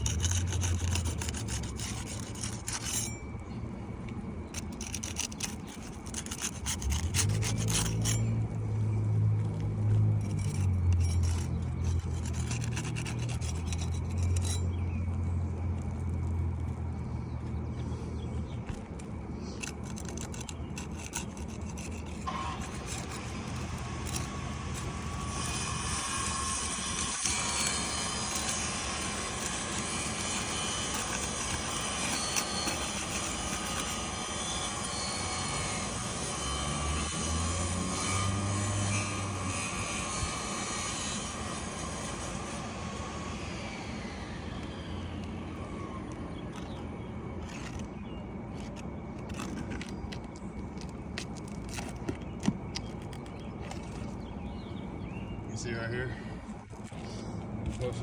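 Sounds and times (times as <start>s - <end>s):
engine noise: 0.0s - 54.8s.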